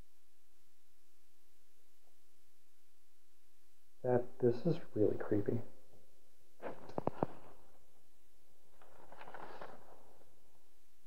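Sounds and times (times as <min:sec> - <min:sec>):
faint hiss: 0:00.0 - 0:11.0
steady single-tone hum: 0:00.0 - 0:11.0.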